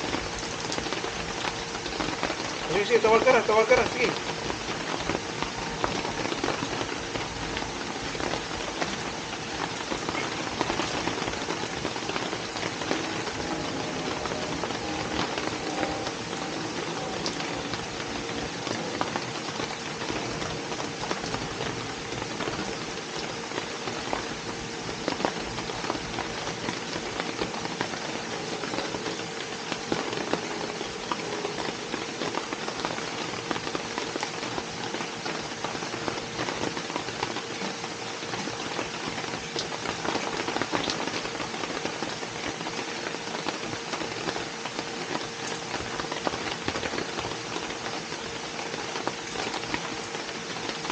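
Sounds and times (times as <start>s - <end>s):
steady rain pattering: 0.0s - 50.9s.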